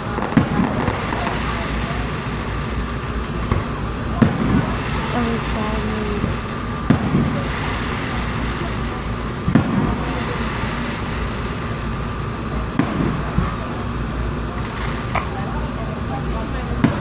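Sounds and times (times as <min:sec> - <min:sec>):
fireworks booming: 0:00.0 - 0:17.0
steady background din: 0:00.0 - 0:17.0.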